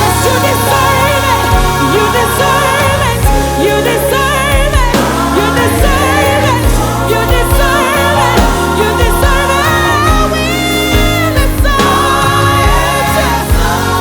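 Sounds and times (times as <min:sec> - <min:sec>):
bass: 0:00.0 - 0:14.0
drums: 0:00.0 - 0:14.0
keyboard chords: 0:00.0 - 0:14.0
person singing with vibrato: 0:00.0 - 0:14.0.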